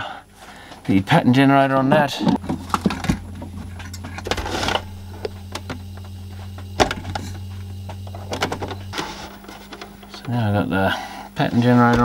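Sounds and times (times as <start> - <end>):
low hum: 1.6 - 12.0.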